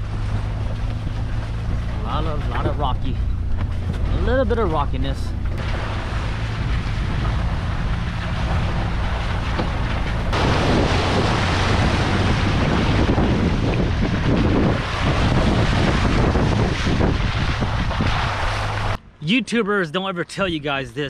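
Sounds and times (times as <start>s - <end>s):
tyres rumbling over stones: 0.0s - 19.0s
wind on microphone: 0.0s - 19.0s
vehicle engine droning: 0.0s - 19.2s.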